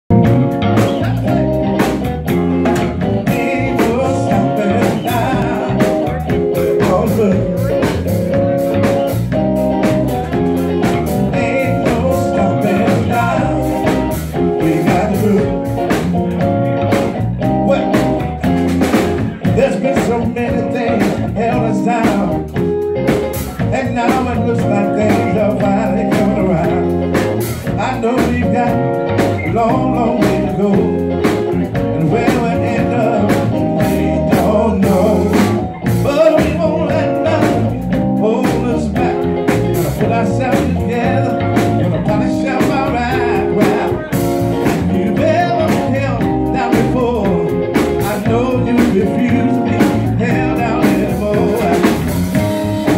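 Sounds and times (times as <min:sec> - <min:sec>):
electric bass: 0:00.0 - 0:52.9
drum beat: 0:00.1 - 0:52.9
electric guitar: 0:00.1 - 0:52.9
lead vocalist singing: 0:03.0 - 0:09.2, 0:09.8 - 0:16.5, 0:17.2 - 0:22.7, 0:23.3 - 0:52.9.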